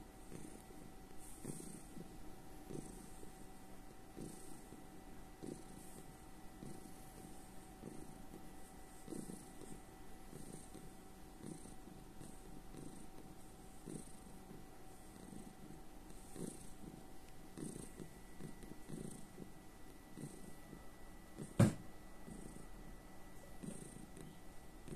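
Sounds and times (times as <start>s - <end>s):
cat purring: 0.0s - 24.9s.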